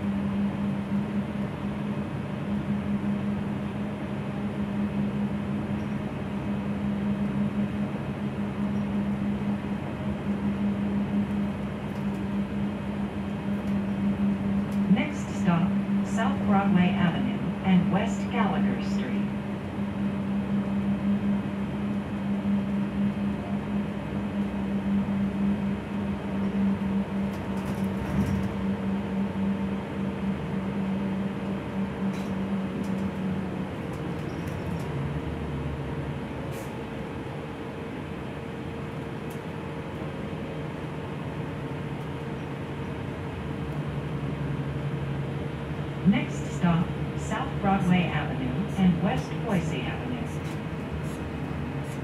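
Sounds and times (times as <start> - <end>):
bus drivetrain hum: 0.0 - 52.0
road and cabin noise: 0.0 - 52.0.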